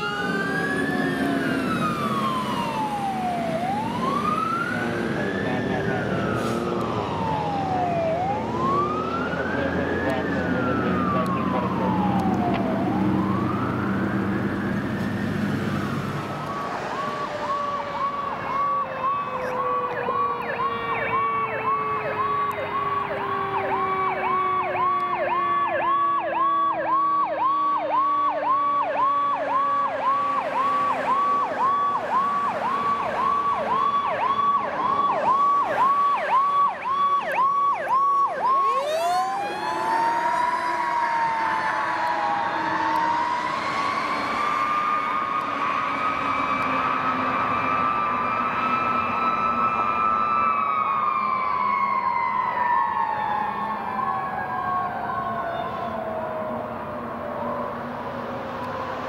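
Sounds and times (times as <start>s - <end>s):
siren yelping rapidly: 0.0s - 14.8s, 16.4s - 57.8s
diesel engine: 0.0s - 59.0s
fire truck siren wailing: 0.0s - 59.0s
low siren tone sliding down: 0.0s - 59.0s.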